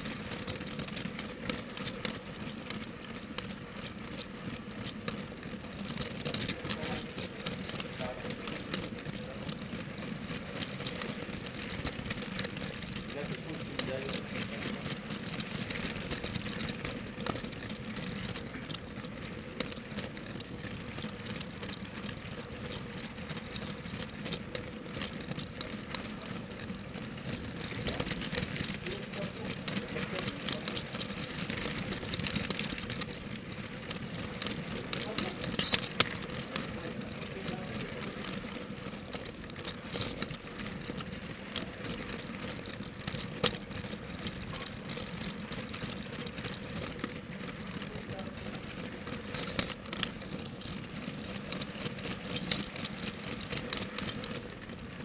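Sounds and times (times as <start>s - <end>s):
toy train wheels rattling on track: 0.0s - 55.0s.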